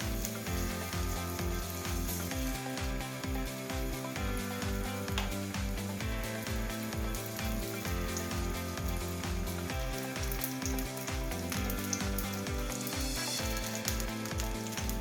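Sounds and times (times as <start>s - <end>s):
background music with beat: 0.0s - 15.0s
food sizzling in oil: 0.0s - 15.0s.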